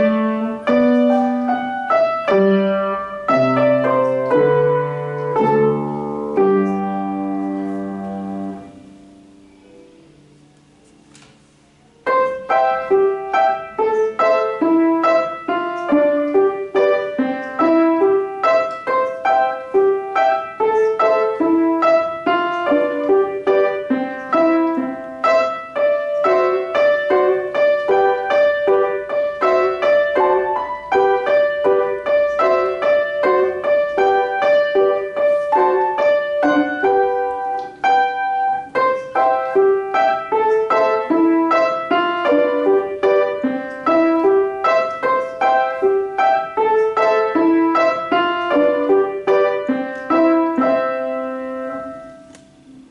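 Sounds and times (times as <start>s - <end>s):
brisk solo piano piece: 0.0s - 52.9s.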